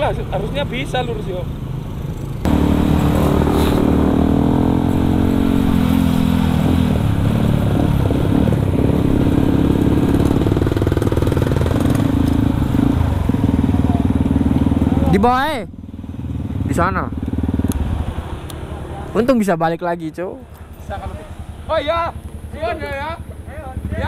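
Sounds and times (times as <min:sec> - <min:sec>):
motorcycle engine while riding: 0:01.6 - 0:19.3, 0:20.5 - 0:24.0.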